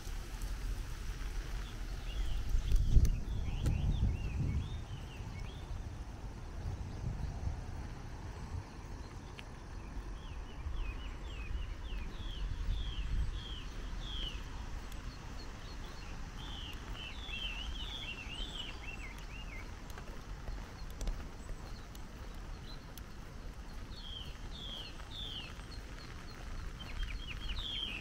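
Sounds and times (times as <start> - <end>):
bird singing whistled notes: 1.6 - 5.8, 9.0 - 28.0.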